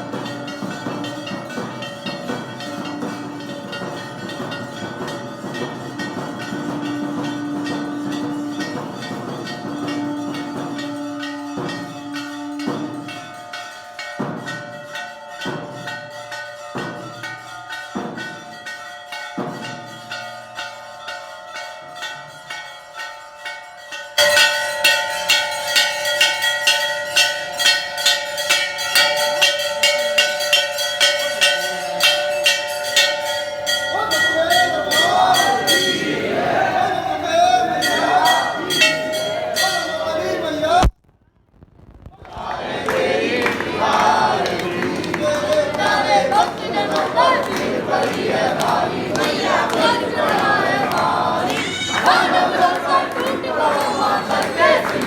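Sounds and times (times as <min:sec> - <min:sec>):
temple bells ringing: 0:00.0 - 0:40.9, 0:43.3 - 0:55.0.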